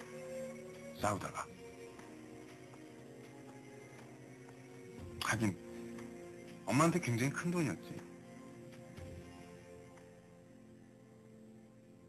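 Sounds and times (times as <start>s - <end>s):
soft sustained background music: 0.0s - 12.0s.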